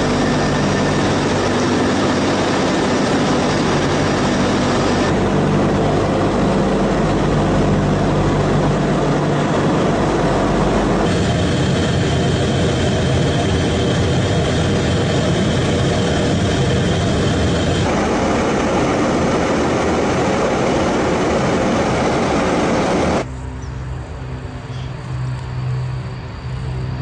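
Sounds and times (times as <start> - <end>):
turboprop engines and propellers: 0.0 - 27.0.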